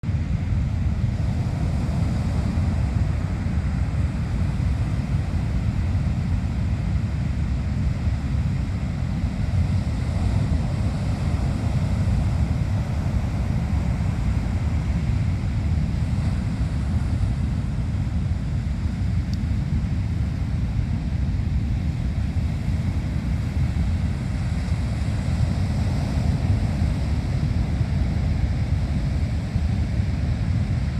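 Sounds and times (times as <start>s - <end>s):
wind rumbling on microphone: 0.0s - 30.9s
waves breaking: 0.8s - 30.9s.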